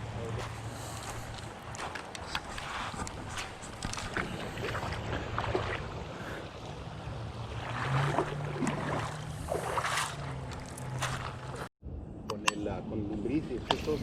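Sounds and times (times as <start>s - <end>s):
creek water rushing and splashing: 0.1s - 11.7s.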